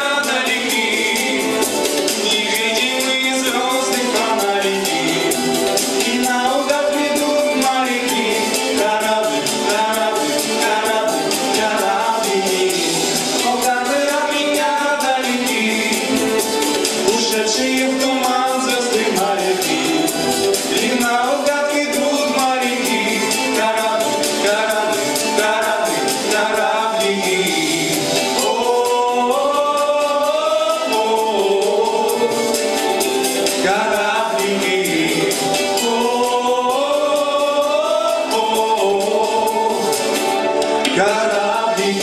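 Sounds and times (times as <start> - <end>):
backing track with steady beat: 0.0 - 42.0
men singing a pop song: 0.0 - 42.0.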